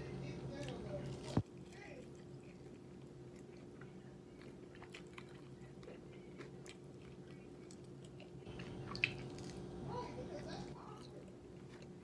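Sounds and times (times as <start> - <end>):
steady low hum: 0.0 - 12.0
person chewing food: 0.6 - 9.7, 10.7 - 12.0.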